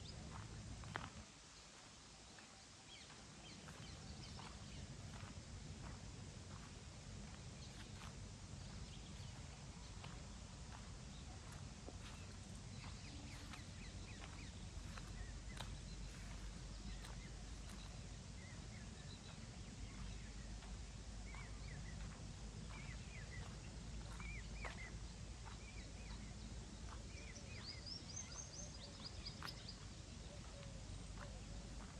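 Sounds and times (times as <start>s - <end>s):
small birds chirping: 0.0s - 31.9s
steady low rumble: 3.0s - 31.9s.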